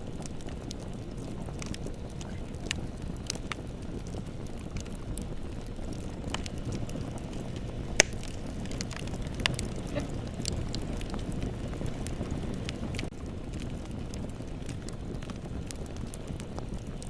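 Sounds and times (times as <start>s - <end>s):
fire low rumble: 0.0s - 17.0s
wood fire crackling: 0.0s - 17.0s.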